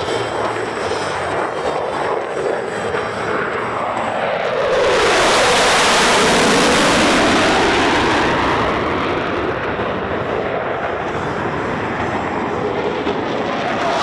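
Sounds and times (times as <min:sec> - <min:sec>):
jet aircraft roar passing: 0:00.0 - 0:14.0.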